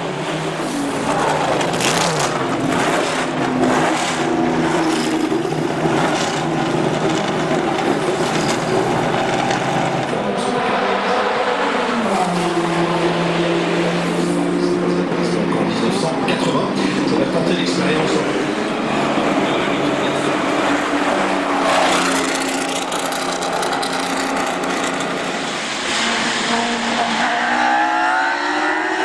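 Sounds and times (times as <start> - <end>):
racing car engines running: 0.0 - 29.0.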